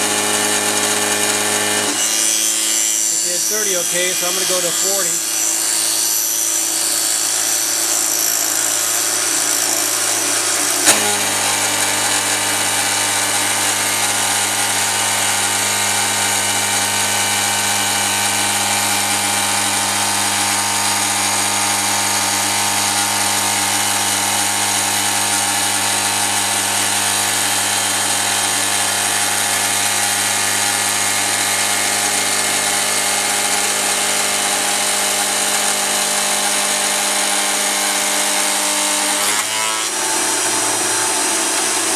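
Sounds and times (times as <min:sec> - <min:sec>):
mill cutting aluminium: 0:00.0 - 0:41.9.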